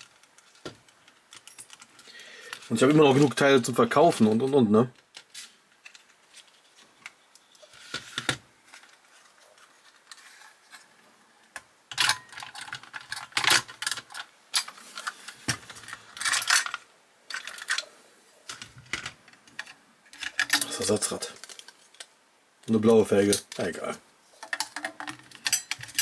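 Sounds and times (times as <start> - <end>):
model car parts clattering: 0.0 - 22.1, 23.1 - 26.0.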